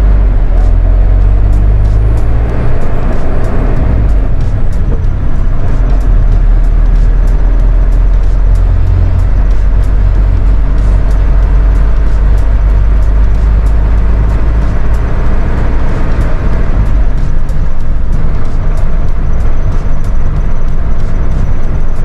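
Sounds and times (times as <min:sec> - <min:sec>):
minibus engine and road noise: 0:00.0 - 0:22.0.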